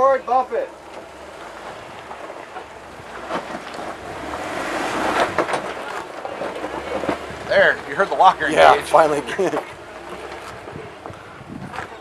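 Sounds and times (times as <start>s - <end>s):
off-road vehicle engine: 0.0s - 12.0s.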